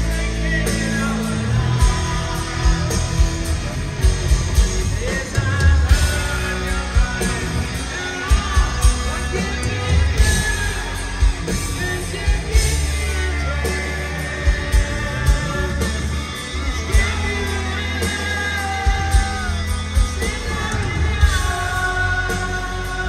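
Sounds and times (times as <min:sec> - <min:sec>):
hard rock band playing live: 0:00.0 - 0:23.0
lead singer: 0:00.0 - 0:23.0.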